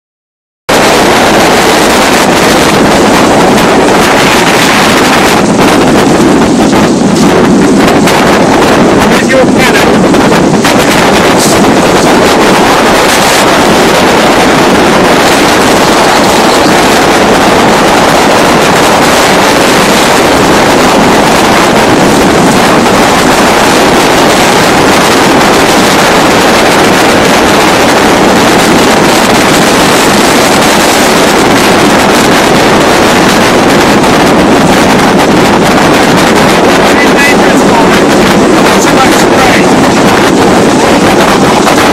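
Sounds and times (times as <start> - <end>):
wind noise on microphone: 0.7 - 41.9.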